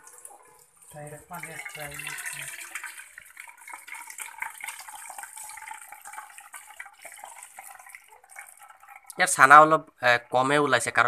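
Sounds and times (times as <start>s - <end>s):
liquid pouring into cloth strainer: 0.0s - 11.0s
whey splashing and trickling: 0.0s - 11.0s.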